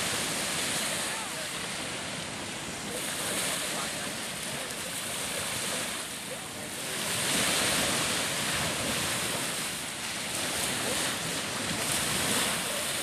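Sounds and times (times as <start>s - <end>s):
sea waves washing in shallows: 0.0s - 13.0s
wind rushing over microphone: 0.0s - 13.0s.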